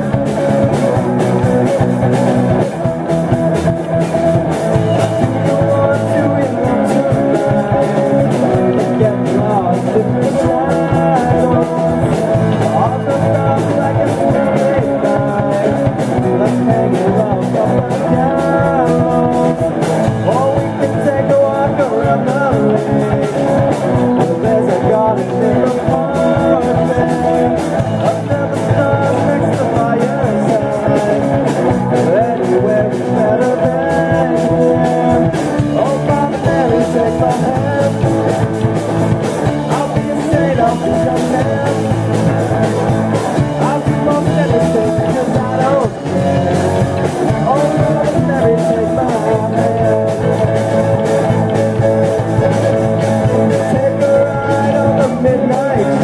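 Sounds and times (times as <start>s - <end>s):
drum kit: 0.0s - 56.0s
electric bass: 0.0s - 56.0s
electric guitar: 0.0s - 56.0s
keyboard: 0.0s - 56.0s.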